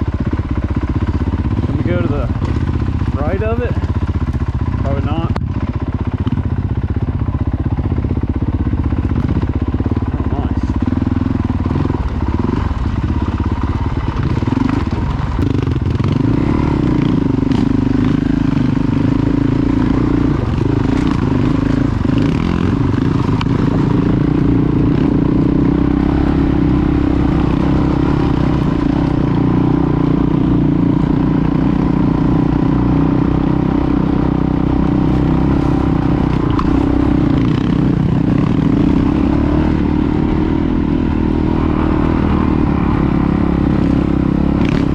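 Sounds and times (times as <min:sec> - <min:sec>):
light rattling from bike: 0:00.0 - 0:44.9
motorcycle engine running: 0:00.0 - 0:44.9.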